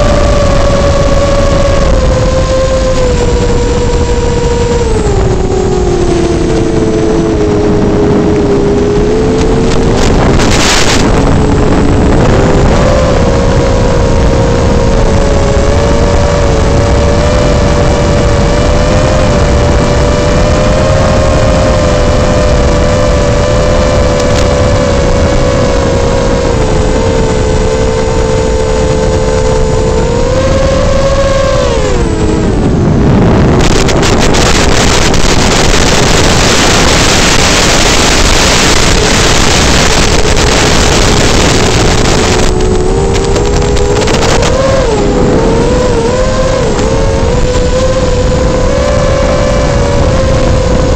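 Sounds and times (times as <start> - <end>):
quadcopter motors whining: 0.0 - 50.9
wind noise: 0.0 - 50.9.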